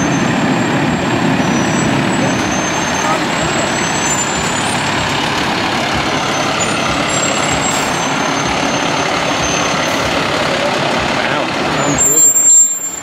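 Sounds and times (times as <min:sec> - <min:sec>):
fire engine diesel engine running: 0:00.0 - 0:13.0.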